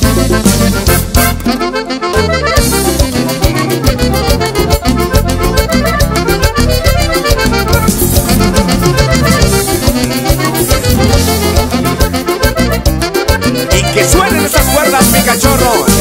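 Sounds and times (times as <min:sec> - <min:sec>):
button accordion melody: 0:00.0 - 0:16.0
cumbia band playing: 0:00.0 - 0:16.0.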